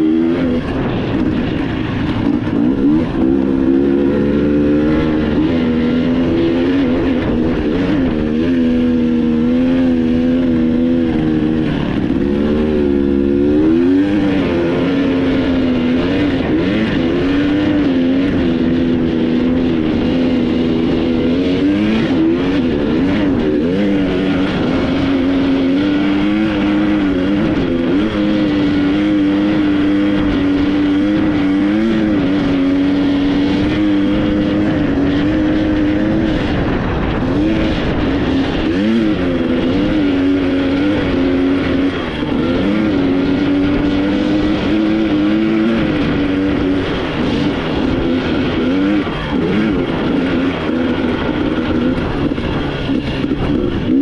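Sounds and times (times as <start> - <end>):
constant rushing noise: 0.0 - 54.0
vehicle engine running: 0.0 - 54.0.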